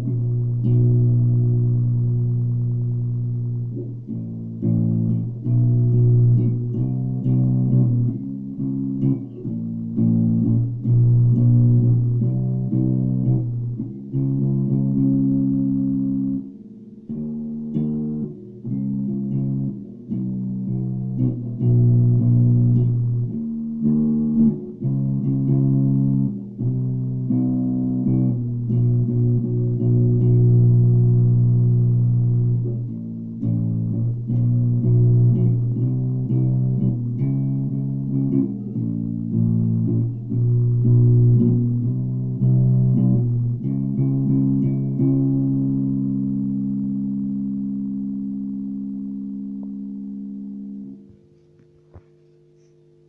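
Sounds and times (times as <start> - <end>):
electric bass riff: 0.0 - 53.0.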